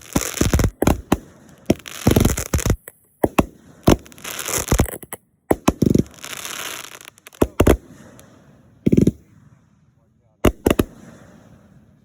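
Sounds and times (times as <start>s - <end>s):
firework crackling hiss: 0.0s - 9.7s
firework bangs: 0.0s - 12.0s.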